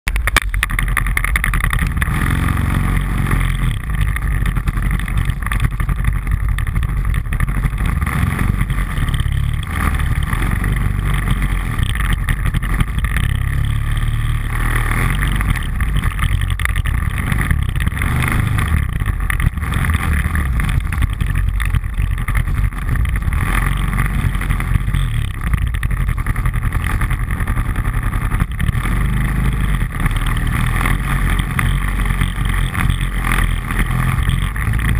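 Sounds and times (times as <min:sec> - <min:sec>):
atv engine rumbling: 0:00.0 - 0:34.9.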